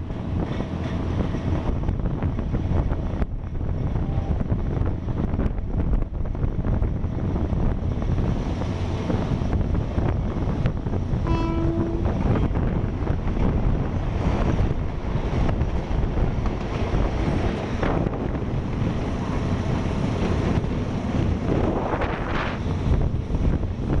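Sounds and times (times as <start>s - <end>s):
train rumbling on track: 0.0s - 24.0s
wind buffeting microphone: 0.0s - 24.0s.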